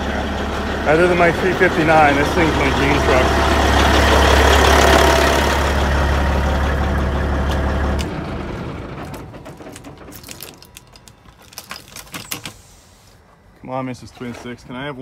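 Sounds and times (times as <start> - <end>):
diesel engine idling: 0.0 - 13.2.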